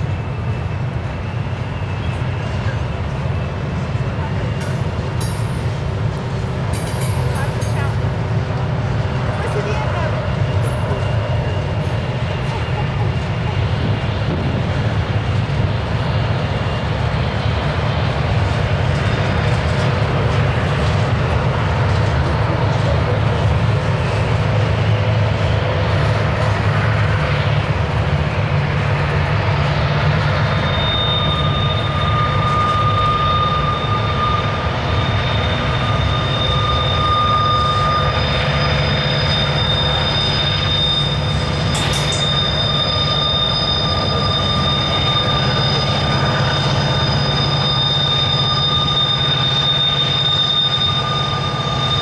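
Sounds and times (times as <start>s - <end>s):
train cars rumbling past: 0.0s - 52.0s
wheel flanges squealing: 0.0s - 52.0s.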